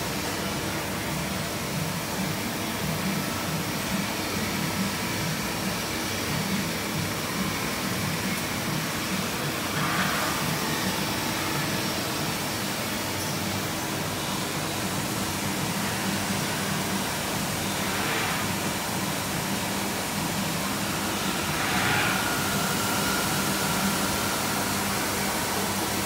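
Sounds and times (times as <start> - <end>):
lathe whirring hum: 0.0 - 26.0.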